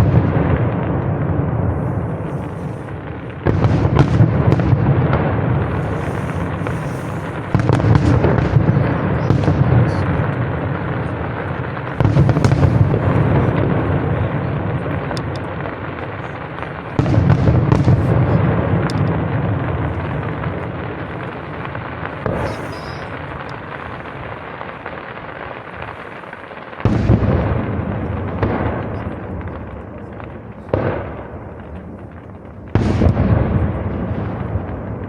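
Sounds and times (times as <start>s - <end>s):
firework crackles: 0.0s - 35.0s
firework shells bursting: 0.0s - 35.0s.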